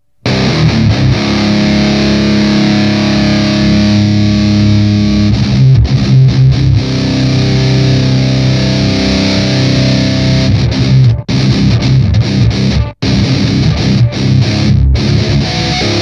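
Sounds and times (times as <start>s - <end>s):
distorted electric guitar riff: 0.0s - 16.0s.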